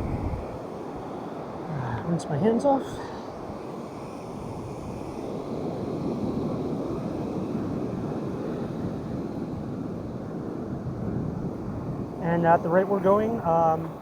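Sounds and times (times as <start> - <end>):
ocean surf washing up beach: 0.0 - 14.0.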